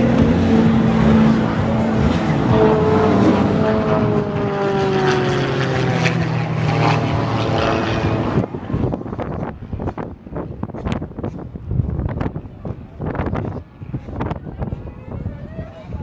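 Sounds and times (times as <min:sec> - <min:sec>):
plane engine and propeller drone: 0:00.0 - 0:16.0.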